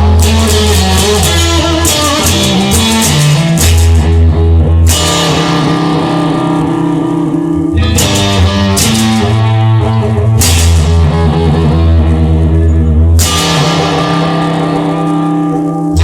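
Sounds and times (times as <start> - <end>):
bass line: 0.0 - 16.0
electric guitar: 0.0 - 16.0.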